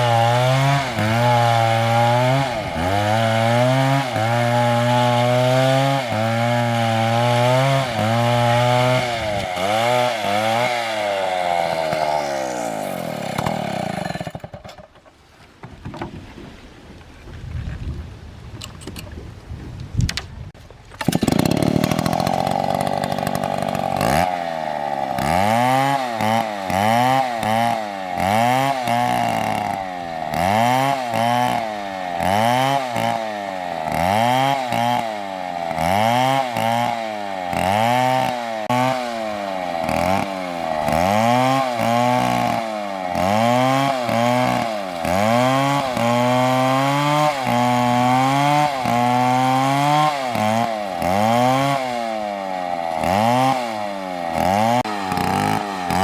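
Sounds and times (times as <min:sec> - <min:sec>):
chainsaw cutting wood: 0:00.0 - 0:15.1, 0:20.9 - 0:56.0.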